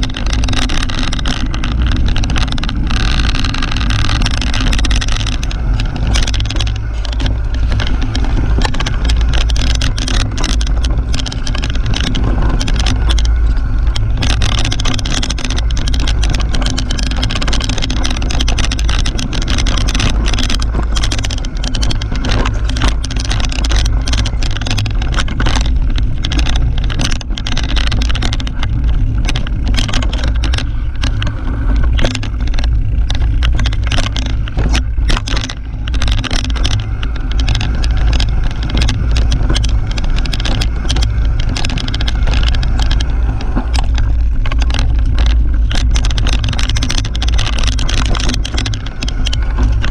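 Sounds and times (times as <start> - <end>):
bike rattling and knocking: 0.0 - 49.9
bike tyre and trail noise: 0.0 - 49.9
wind rumble on microphone: 0.0 - 49.9.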